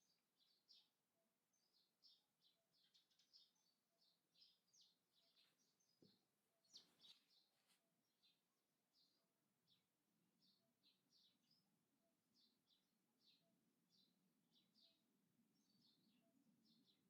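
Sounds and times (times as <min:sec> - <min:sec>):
faint songbirds chirping: 0:00.0 - 0:17.0.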